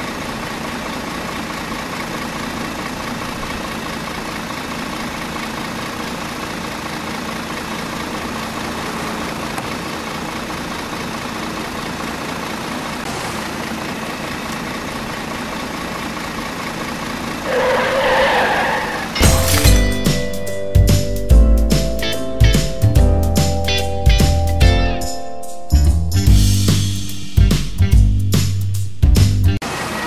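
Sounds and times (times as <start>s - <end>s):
vehicle engine idling: 0.0s - 25.1s, 25.8s - 29.9s.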